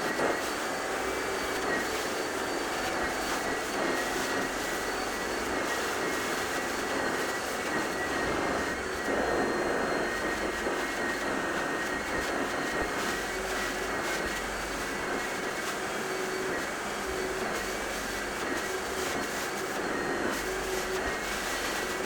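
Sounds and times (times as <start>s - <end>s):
vacuum motor whine: 0.0s - 22.0s.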